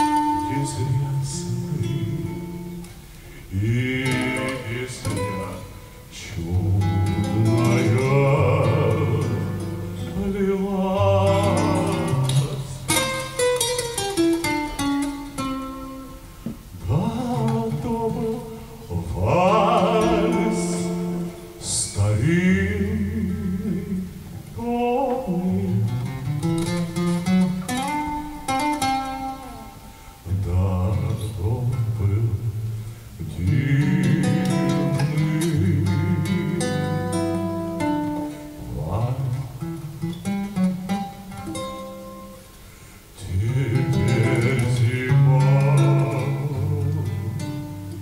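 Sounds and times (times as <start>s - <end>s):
man singing: 0.0s - 13.6s, 16.6s - 27.3s, 28.4s - 40.2s, 43.2s - 48.0s
acoustic guitar: 0.0s - 48.0s.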